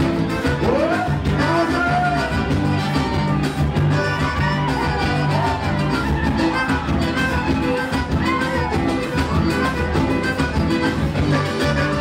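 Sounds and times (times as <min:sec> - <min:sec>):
accordion: 0:00.0 - 0:12.0
drums: 0:00.0 - 0:12.0
electric bass line: 0:00.0 - 0:12.0
guitar: 0:00.0 - 0:12.0
keyboard: 0:00.0 - 0:12.0.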